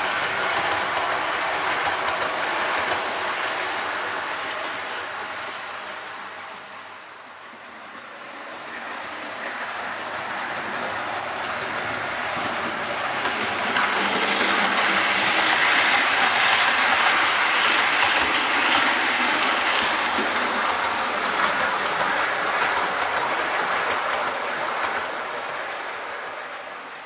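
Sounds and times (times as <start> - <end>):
model train wheels rolling on rails: 0.0 - 27.0.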